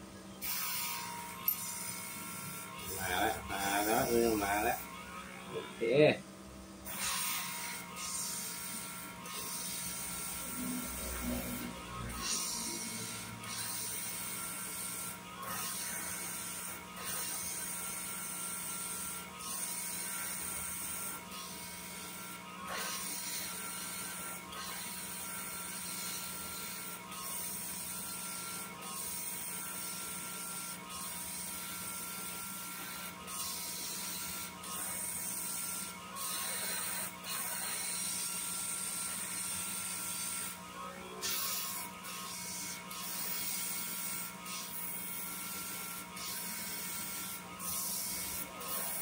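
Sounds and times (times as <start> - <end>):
machine whine and hum: 0.0 - 49.0
high machine tone: 0.1 - 6.2, 6.9 - 40.5.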